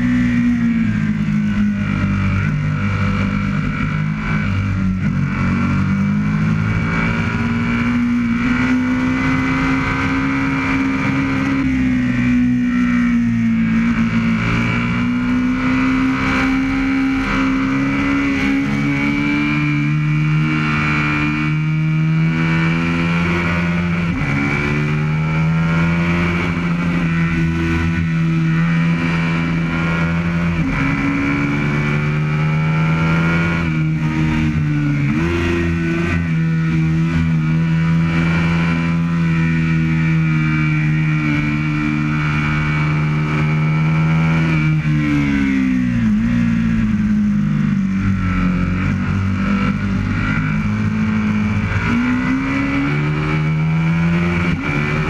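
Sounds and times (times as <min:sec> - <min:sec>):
motorcycle engine at speed: 0:00.0 - 0:55.0.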